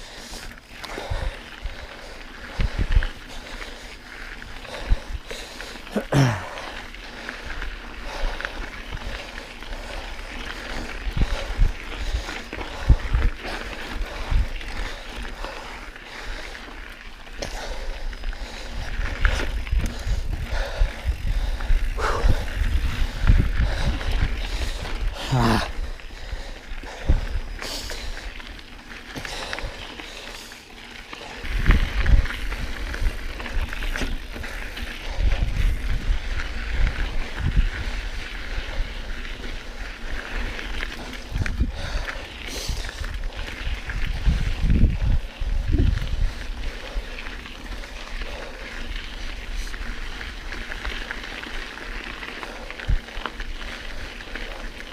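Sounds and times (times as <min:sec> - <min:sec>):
wind rumble on microphone: 0:00.0 - 0:05.8, 0:06.9 - 0:16.7, 0:17.4 - 0:28.5, 0:31.2 - 0:54.9
bike rattling and knocking: 0:00.1 - 0:54.9
tyres crunching on dirt: 0:00.4 - 0:54.9.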